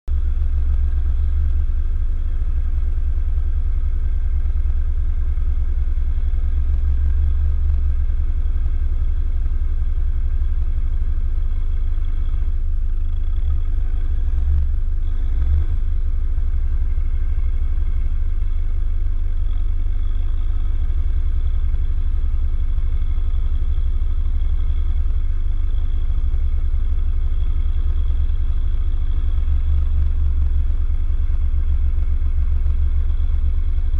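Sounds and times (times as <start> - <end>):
engine idling low rumble: 0.1 - 33.9.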